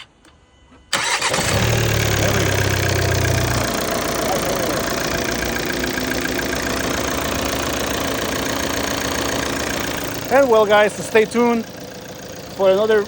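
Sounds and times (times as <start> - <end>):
car engine idling: 0.9 - 13.0.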